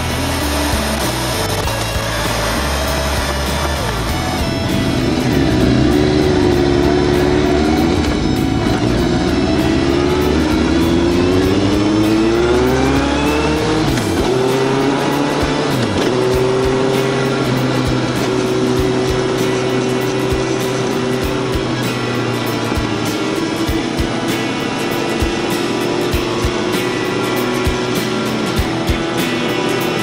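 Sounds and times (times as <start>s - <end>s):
motorcycle engine under way: 0.0s - 30.0s.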